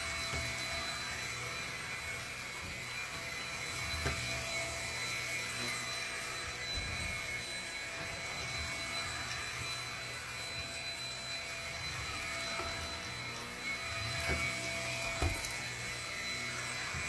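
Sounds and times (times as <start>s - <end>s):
stick vacuum running: 0.0s - 17.0s.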